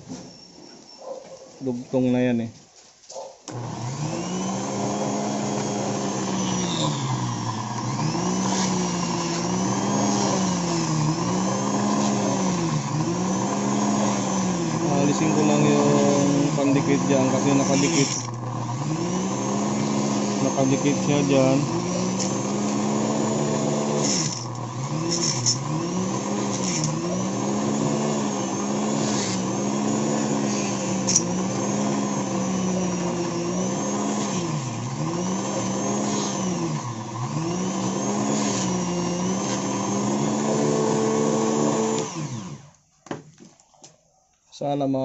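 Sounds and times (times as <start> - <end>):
rotary tool grinding: 3.5 - 42.8.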